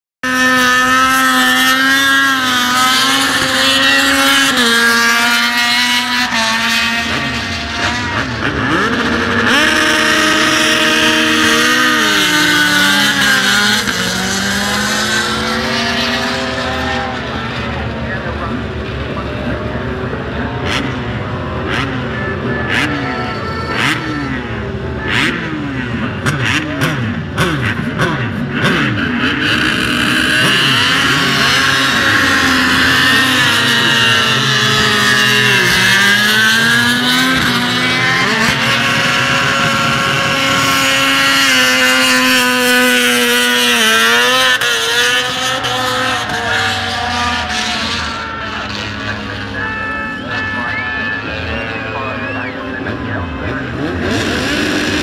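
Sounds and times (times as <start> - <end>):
racing motorcycles revving past: 0.2 - 55.0.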